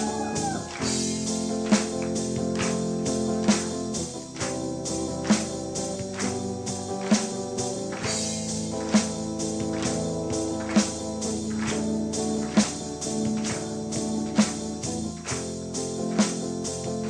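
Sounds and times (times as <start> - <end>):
tambourine-like rhythm: 0.0 - 17.0.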